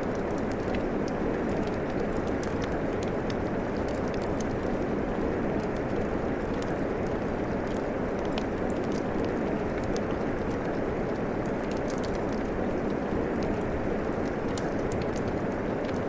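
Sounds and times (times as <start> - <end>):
steady rain falling: 0.0 - 16.0
wood fire crackling: 0.0 - 16.0.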